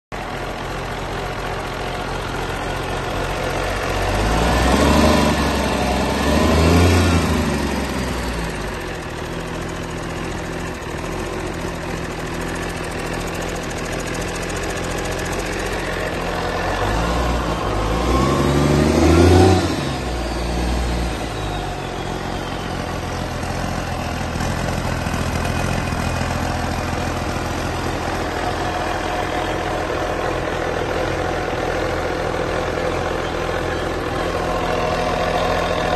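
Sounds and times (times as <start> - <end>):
diesel engine idling and revving: 0.1 - 35.9.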